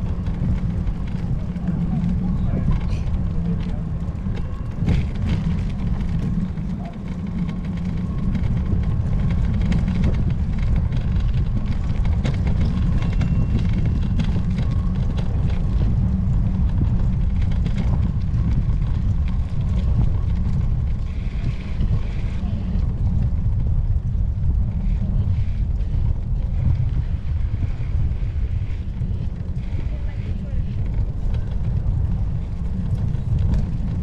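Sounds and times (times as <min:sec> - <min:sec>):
faint rattles and clicks: 0:00.0 - 0:34.0
wind buffeting microphone: 0:00.0 - 0:34.0.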